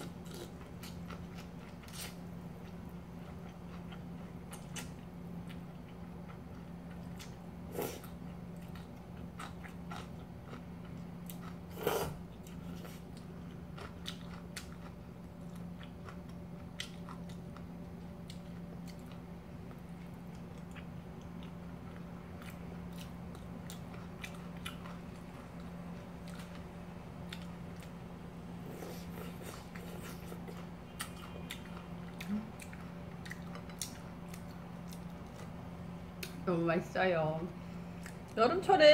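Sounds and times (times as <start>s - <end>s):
person chewing noodles: 0.0s - 35.6s, 37.9s - 38.4s
low steady hum: 0.0s - 38.9s.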